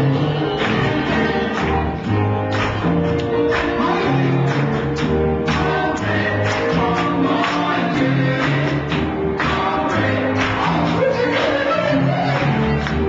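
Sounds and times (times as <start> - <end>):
group singing: 0.0 - 2.1, 3.4 - 13.0
bass line: 0.0 - 13.0.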